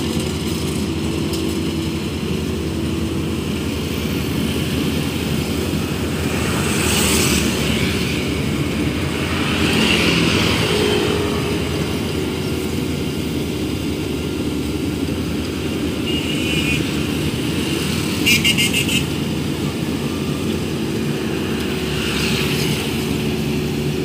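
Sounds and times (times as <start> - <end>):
harvester engine running: 0.0 - 24.0.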